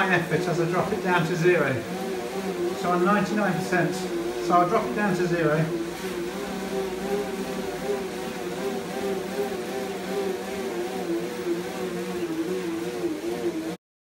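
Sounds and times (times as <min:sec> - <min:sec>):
electric bike motor whirring: 0:00.0 - 0:13.8.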